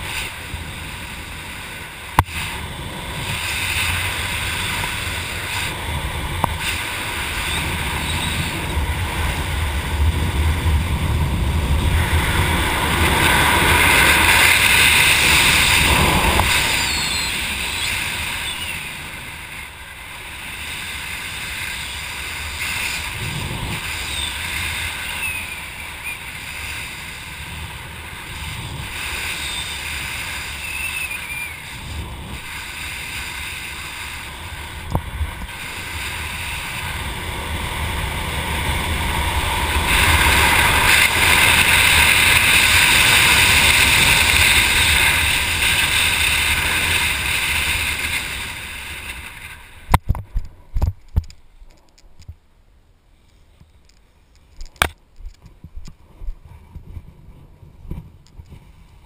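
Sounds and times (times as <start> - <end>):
wind rushing over microphone: 0.0 - 52.4, 54.4 - 59.0.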